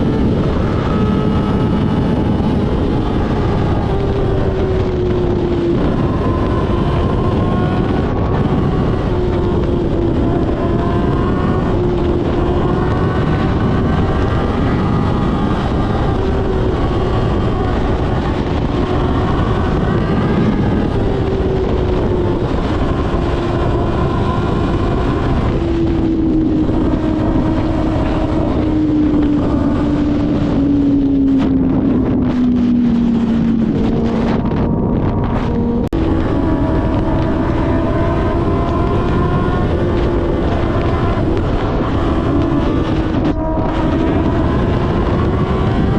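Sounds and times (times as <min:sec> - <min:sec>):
heavy wind noise: 0:00.0 - 0:45.9
motorcycle engine running: 0:00.0 - 0:45.9.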